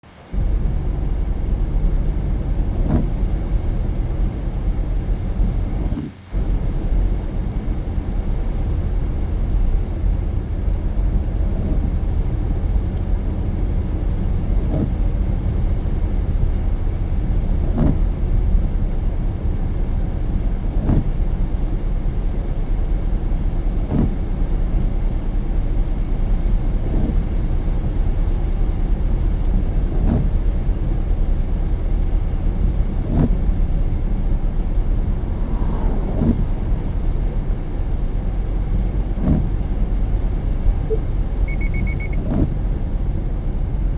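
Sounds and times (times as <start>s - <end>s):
car driving on wet road: 0.0s - 43.9s
windshield wipers swishing: 0.1s - 43.8s.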